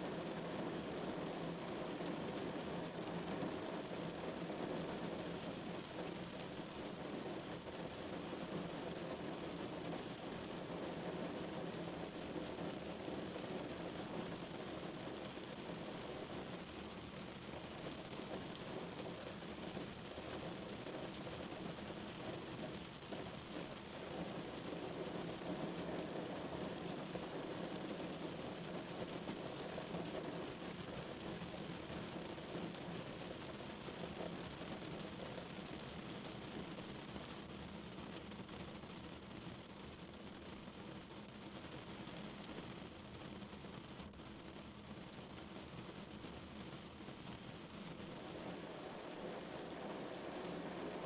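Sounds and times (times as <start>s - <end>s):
rain pattering on a car: 0.0s - 51.0s.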